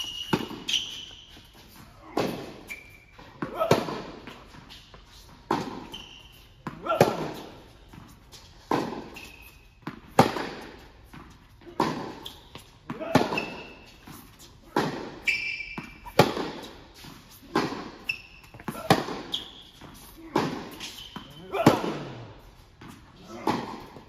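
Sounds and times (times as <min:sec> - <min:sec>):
shoe squeaks on hard court: 0:00.0 - 0:22.2
racquets hitting tennis ball: 0:00.0 - 0:24.0.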